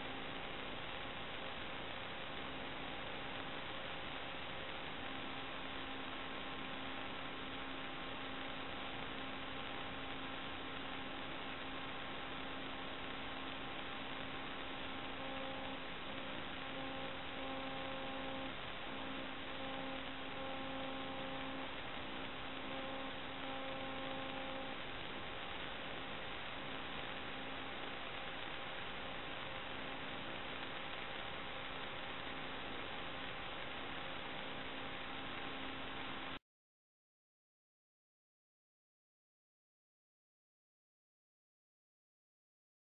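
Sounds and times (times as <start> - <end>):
electronic hiss: 0.0 - 36.4
faint humming tones: 0.0 - 36.4.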